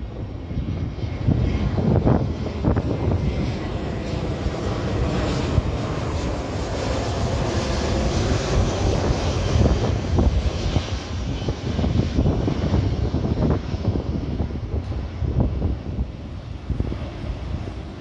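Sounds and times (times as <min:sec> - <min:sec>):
jet airliner flying over: 0:00.0 - 0:18.0.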